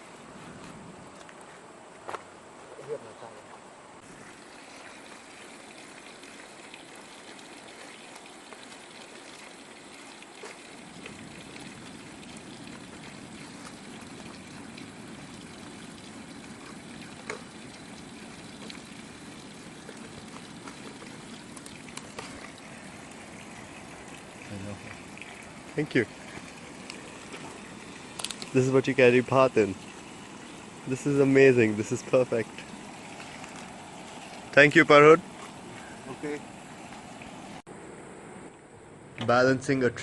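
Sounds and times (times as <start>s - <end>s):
water rushing in a stream: 4.0s - 37.7s.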